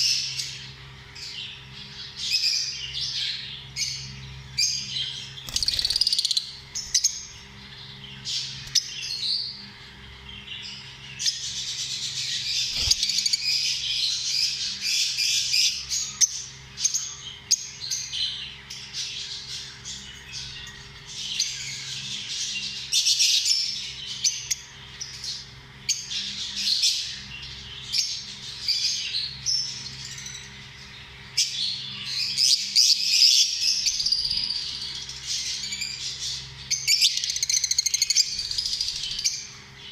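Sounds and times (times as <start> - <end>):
lovebirds chirping and squawking: 0.0 - 39.9.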